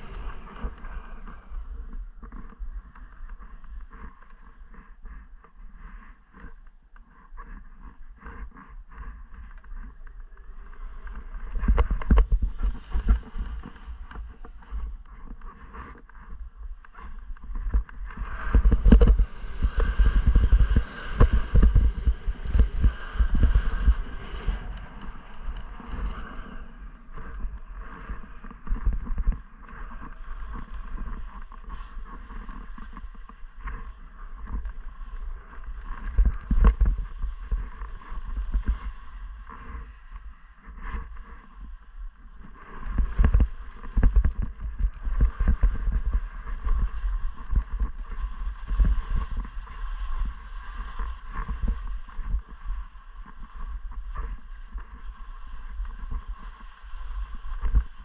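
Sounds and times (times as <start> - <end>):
wind buffeting microphone: 0.0 - 4.2, 9.4 - 58.0
skis scraping over crusted snow: 0.0 - 58.0.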